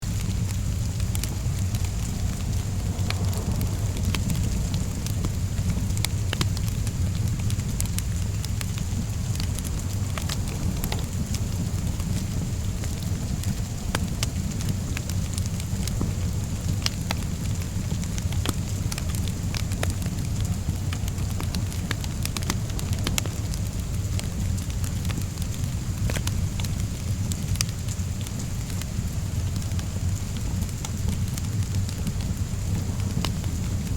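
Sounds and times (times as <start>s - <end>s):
steady rain hiss: 0.0s - 33.9s
wood fire crackling: 0.0s - 33.9s.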